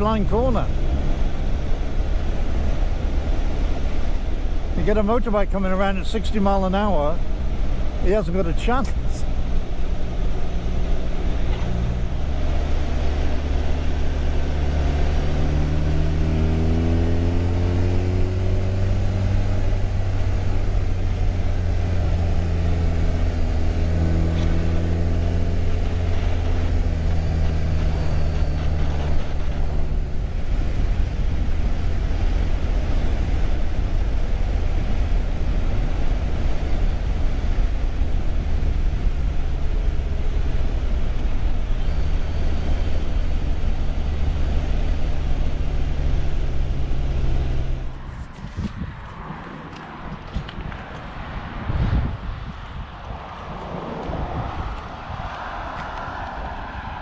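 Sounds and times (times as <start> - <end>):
wind rush on microphone: 8.6 - 57.0.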